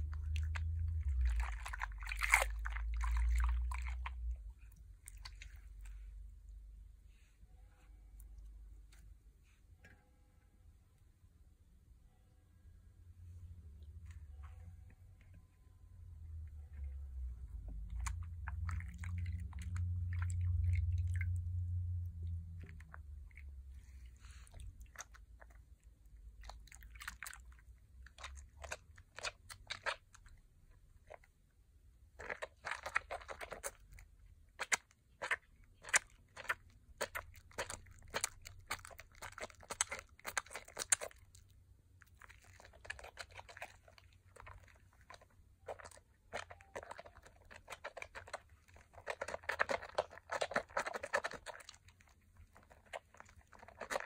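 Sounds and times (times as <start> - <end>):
wet soap squelches: 0.0 - 9.4, 13.4 - 54.0.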